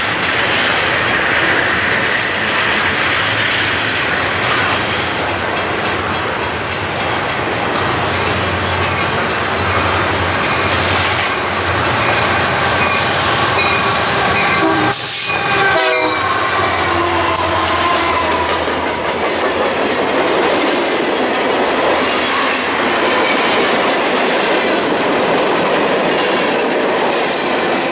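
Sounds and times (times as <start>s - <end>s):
freight train rumbling past: 0.0s - 27.9s
wheel clatter on rail joints: 0.0s - 27.9s.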